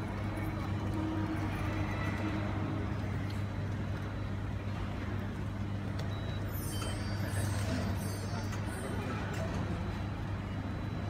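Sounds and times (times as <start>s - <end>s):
bus: 0.0s - 11.0s
low rumble of road traffic: 0.0s - 11.0s.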